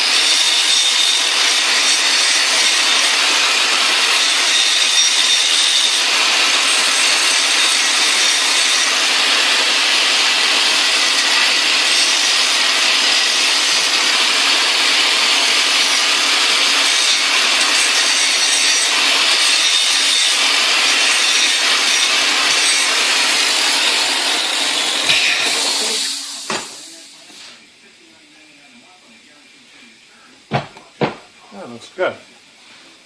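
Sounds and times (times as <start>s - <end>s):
angle grinder grinding metal: 0.0s - 27.4s.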